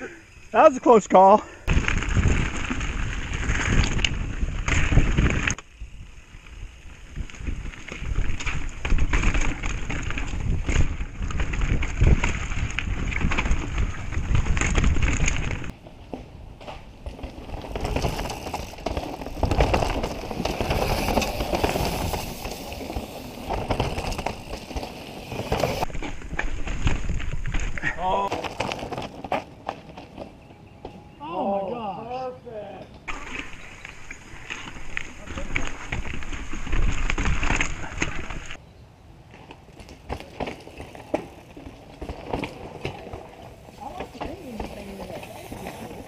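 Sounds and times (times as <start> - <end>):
bike rattling over rocks: 1.7 - 30.4, 33.1 - 38.6, 39.3 - 46.0
bike tyres rumbling on dirt trail: 1.7 - 30.9, 33.1 - 38.6, 39.3 - 46.0.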